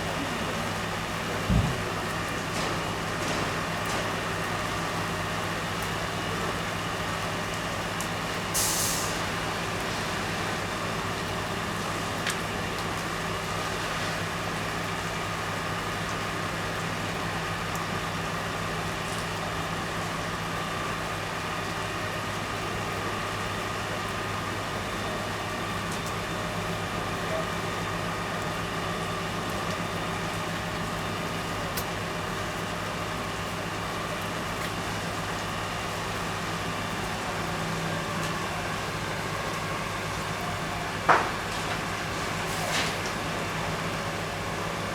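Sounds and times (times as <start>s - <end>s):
fire truck engine humming: 0.0s - 44.9s.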